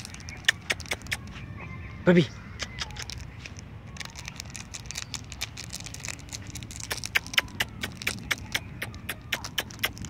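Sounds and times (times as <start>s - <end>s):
foil wrapper crinkling: 0.0s - 1.2s, 2.6s - 10.0s.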